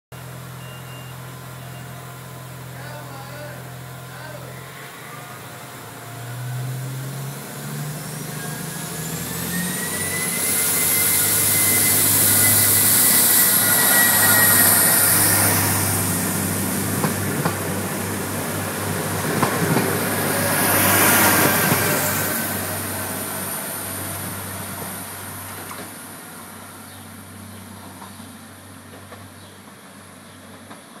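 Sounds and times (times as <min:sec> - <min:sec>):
diesel train engines revving: 0:00.2 - 0:31.0.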